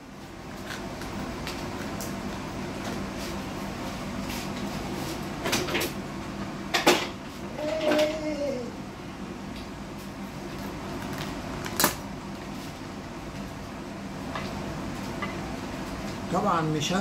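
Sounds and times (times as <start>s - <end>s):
steady hum and hiss: 0.0s - 17.0s.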